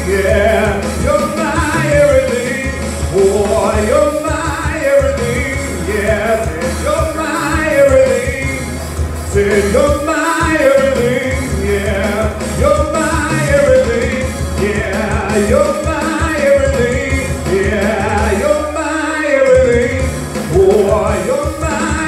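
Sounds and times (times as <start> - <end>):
backing music with bass: 0.0 - 22.0
man singing into microphone: 0.0 - 22.0.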